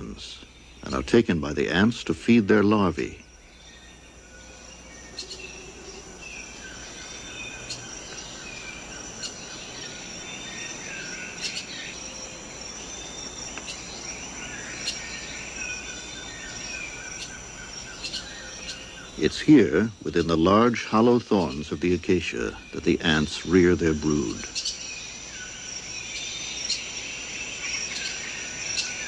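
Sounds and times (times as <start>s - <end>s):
birds whistling: 0.0s - 29.0s
insect chirps: 0.0s - 29.0s
insects droning: 0.0s - 29.0s.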